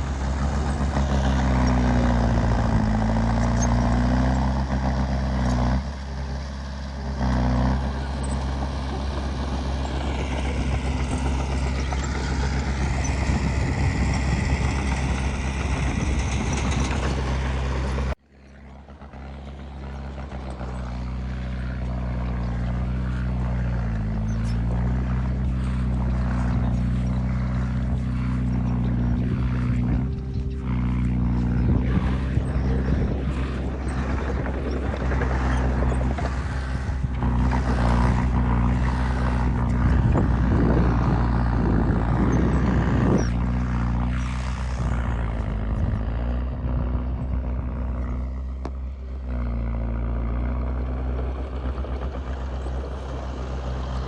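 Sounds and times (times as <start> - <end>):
heavy machinery diesel engine running: 0.0 - 54.0.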